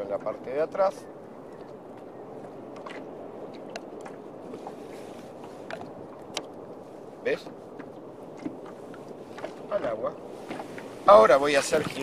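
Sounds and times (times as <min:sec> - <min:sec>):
sea water washing: 0:00.0 - 0:12.0
wind: 0:00.0 - 0:12.0.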